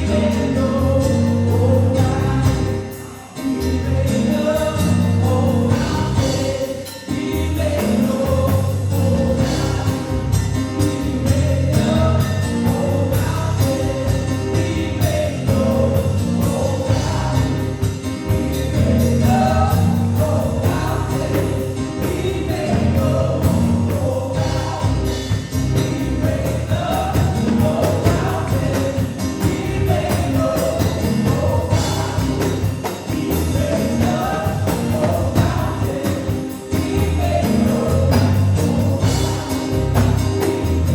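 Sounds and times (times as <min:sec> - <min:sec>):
band with strong bass beat: 0:00.0 - 0:40.9
people singing: 0:00.0 - 0:40.9.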